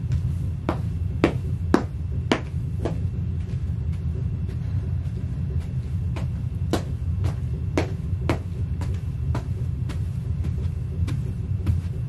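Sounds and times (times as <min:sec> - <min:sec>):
boots stomping on plastic mat: 0:00.0 - 0:04.8, 0:05.5 - 0:12.0
low rumble: 0:00.0 - 0:12.0.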